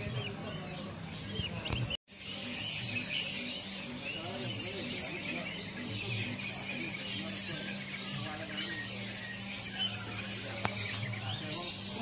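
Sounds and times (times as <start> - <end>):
songbirds chirping and twittering: 0.0 - 12.0.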